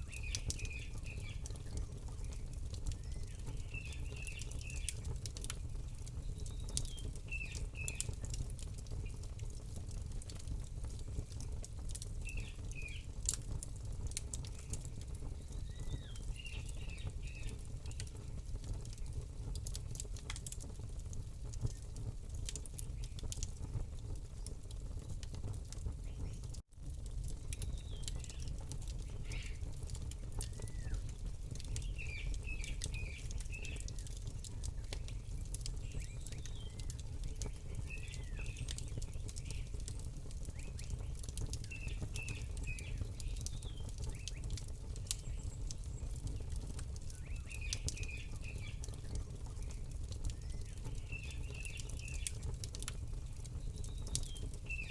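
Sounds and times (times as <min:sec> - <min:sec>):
small birds chirping: 0:00.0 - 0:13.6, 0:14.2 - 0:20.6, 0:24.0 - 0:26.6, 0:27.4 - 0:54.9
campfire crackling and popping: 0:00.0 - 0:54.9.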